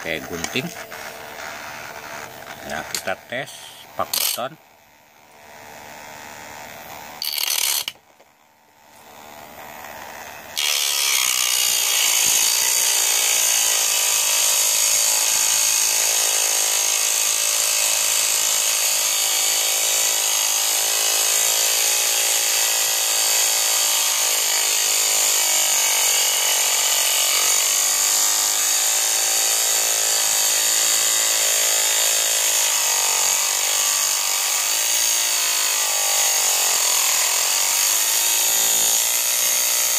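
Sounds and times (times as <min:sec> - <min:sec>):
high-pitched grinding whine: 0:00.0 - 0:39.9.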